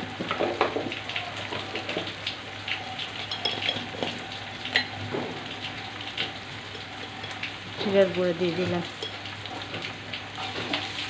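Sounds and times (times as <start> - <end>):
onions frying in hot oil: 0.0 - 11.0.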